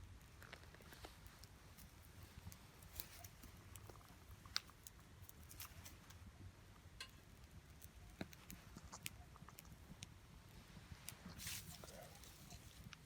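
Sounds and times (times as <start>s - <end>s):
small wood fire crackling: 0.0s - 13.0s.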